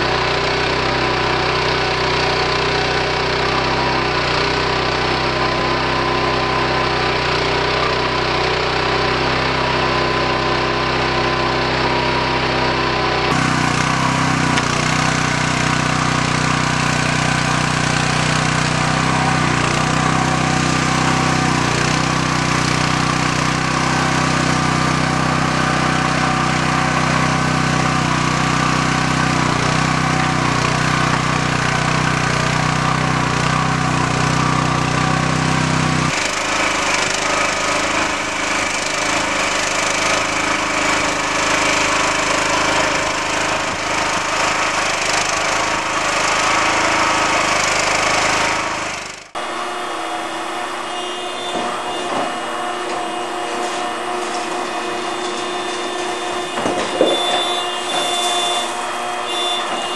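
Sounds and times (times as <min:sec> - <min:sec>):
harsh noisy machine sound: 0:00.0 - 0:59.9
small engine running: 0:00.0 - 0:59.9.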